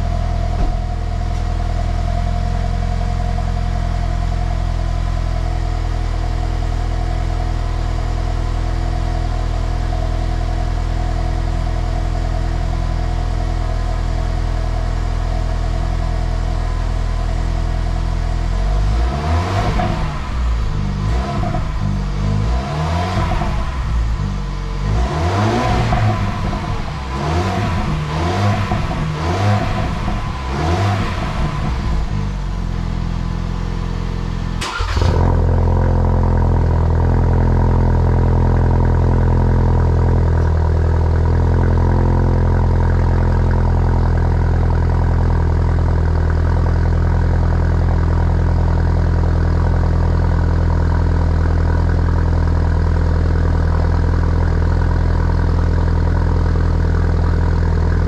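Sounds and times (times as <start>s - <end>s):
engine exhaust revving and idling: 0.0s - 58.0s.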